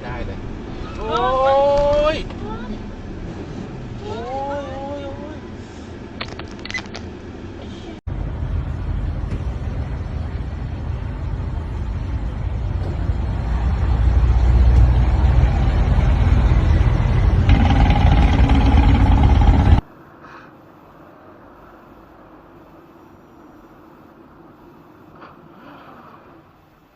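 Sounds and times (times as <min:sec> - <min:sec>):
vehicle engine and road noise: 0:00.0 - 0:26.9.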